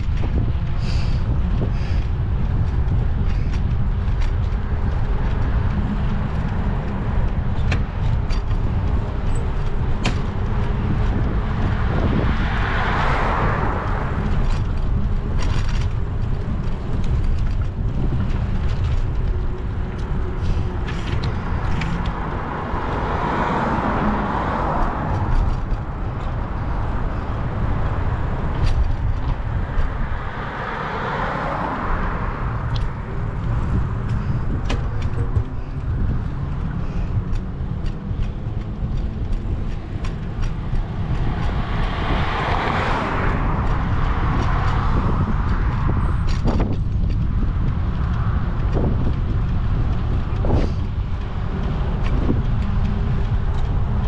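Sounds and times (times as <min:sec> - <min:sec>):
vehicles passing: 0:00.0 - 0:54.0
wind rumble on microphone: 0:00.0 - 0:54.0.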